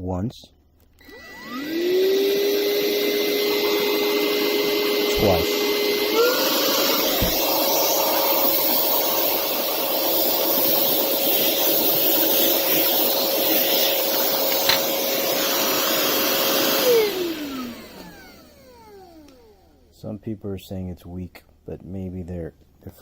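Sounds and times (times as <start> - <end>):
vacuum cleaner click: 0.8 - 19.8
vacuum cleaner motor whine: 1.0 - 20.1.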